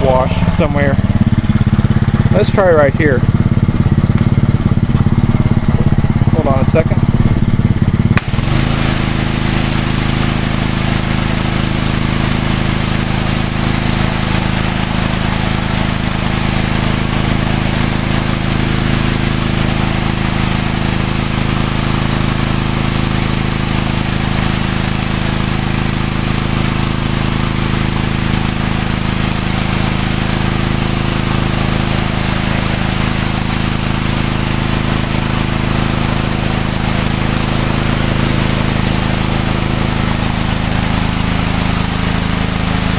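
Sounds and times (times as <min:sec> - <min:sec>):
high-pressure water jet hissing: 0:00.0 - 0:03.7, 0:04.3 - 0:42.9
pressure washer engine running: 0:00.0 - 0:42.9.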